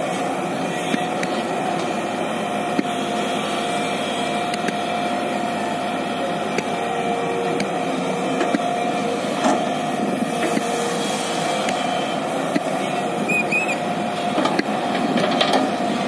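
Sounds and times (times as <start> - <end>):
excavator diesel engine running: 0.0 - 16.0
steady whine: 0.0 - 16.0.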